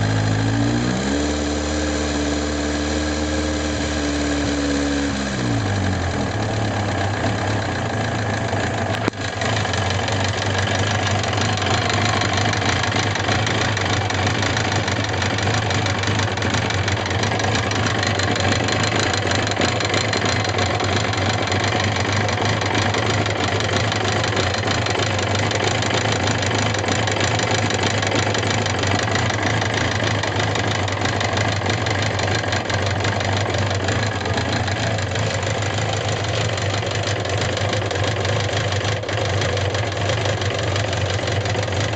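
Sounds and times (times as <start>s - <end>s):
motorcycle engine idling: 5.6s - 41.9s
rapid mechanical clatter and ticking: 7.0s - 41.9s.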